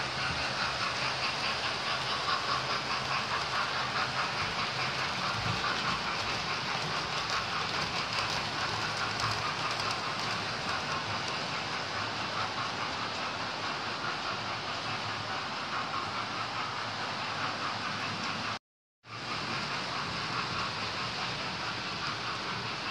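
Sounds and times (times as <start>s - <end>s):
model trains whirring: 0.0s - 22.9s
wheels clicking on track: 0.0s - 22.9s.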